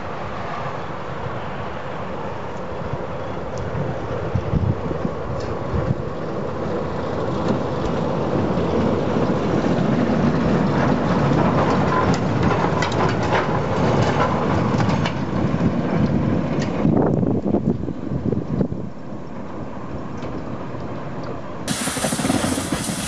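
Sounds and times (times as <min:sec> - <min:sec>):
diesel locomotive engine rumble: 0:00.0 - 0:23.0
wheels on rail: 0:00.0 - 0:23.0.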